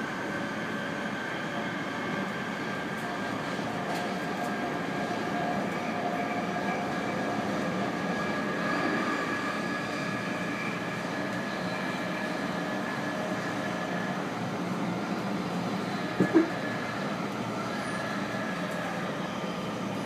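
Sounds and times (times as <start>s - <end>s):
train wheels rumbling on track: 0.0s - 20.0s
train whine: 0.0s - 20.0s.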